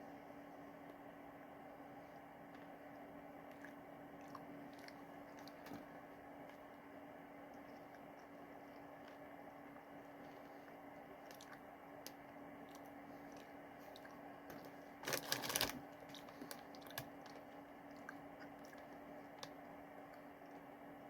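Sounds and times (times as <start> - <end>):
chewing popcorn crunches: 2.5 - 6.8, 7.5 - 20.7.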